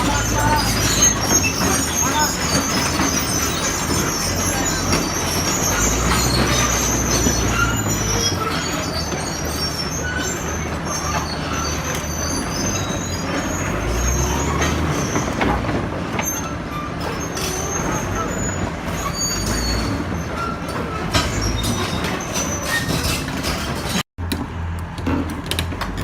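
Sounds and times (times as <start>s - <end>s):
steel tracks squealing: 0.0s - 24.1s
bulldozer diesel engine: 0.0s - 26.0s.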